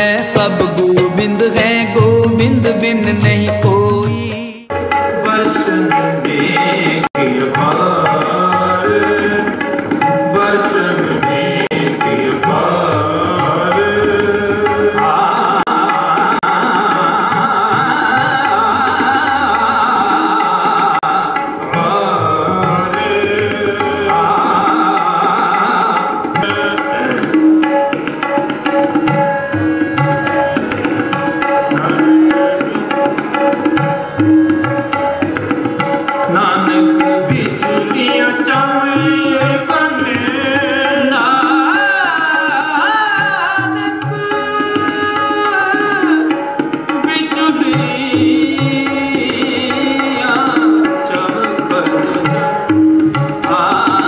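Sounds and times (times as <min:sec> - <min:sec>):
harmonium melody: 0:00.0 - 0:54.0
tabla rhythm: 0:00.0 - 0:54.0.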